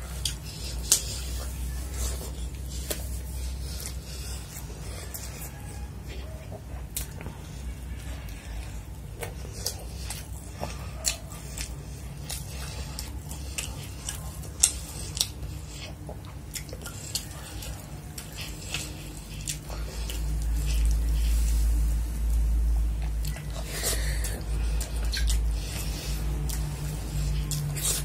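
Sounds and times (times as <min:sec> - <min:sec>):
close chewing with mouth smacks: 0:00.0 - 0:28.0
steady low rumble: 0:00.0 - 0:28.0.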